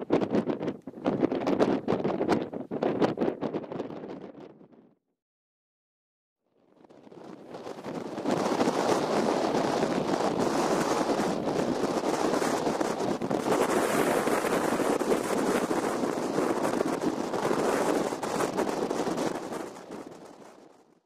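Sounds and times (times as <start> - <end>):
gusty wind buffeting microphone: 0.0 - 5.0, 6.8 - 20.9.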